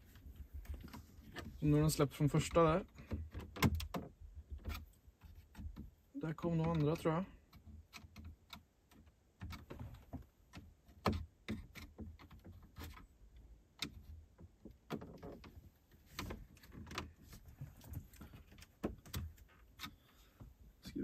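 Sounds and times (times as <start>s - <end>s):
plastic trim clicks and creaks: 2.3s - 17.2s, 17.8s - 20.5s.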